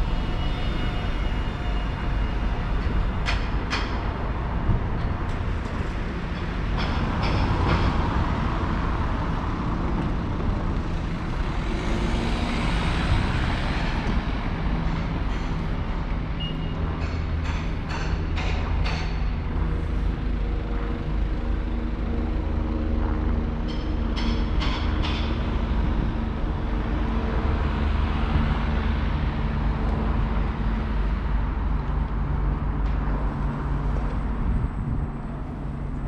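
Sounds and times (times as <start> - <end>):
diesel train rumbling: 0.0 - 36.0.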